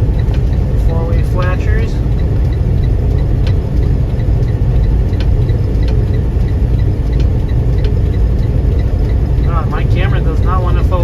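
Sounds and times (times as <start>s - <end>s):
hazard flashers ticking: 0.0s - 11.0s
road noise: 0.0s - 11.0s
truck engine rumble: 0.0s - 11.0s.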